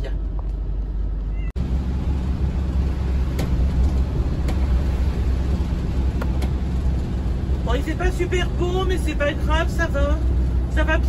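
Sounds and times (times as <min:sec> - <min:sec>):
engine drone: 0:00.0 - 0:11.0
tyre and road noise: 0:00.0 - 0:11.0.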